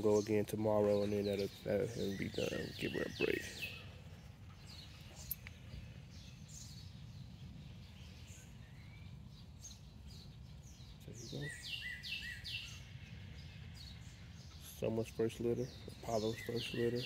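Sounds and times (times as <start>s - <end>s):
songbird calling: 0.0s - 17.0s.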